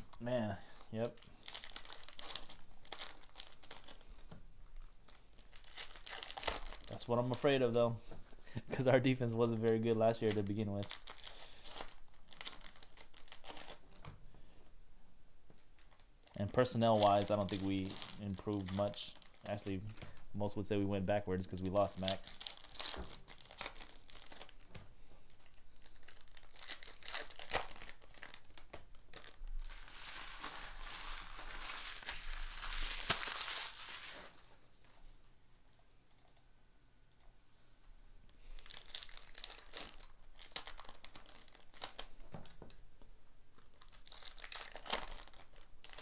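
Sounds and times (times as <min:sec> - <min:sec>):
foil wrappers crinkling and tearing: 0:00.1 - 0:07.8, 0:08.7 - 0:14.1, 0:15.8 - 0:20.6, 0:21.4 - 0:34.6, 0:38.4 - 0:42.8, 0:43.6 - 0:46.0.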